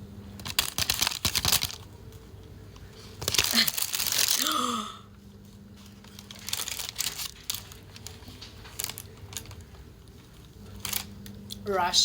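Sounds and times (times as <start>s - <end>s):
faint steady hum: 0.0s - 12.0s
food wrapping crinkling: 0.3s - 11.6s.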